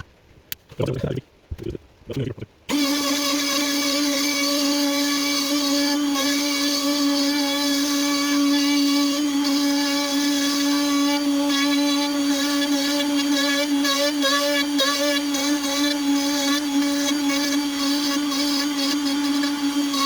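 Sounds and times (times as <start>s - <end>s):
rotary tool whining into wood: 2.7s - 20.0s.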